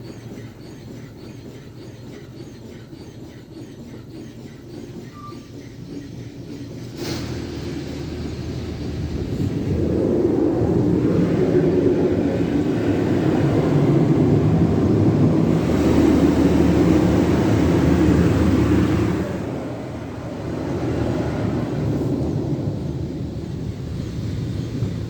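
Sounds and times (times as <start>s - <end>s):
automatic car wash machinery: 0.0s - 25.0s.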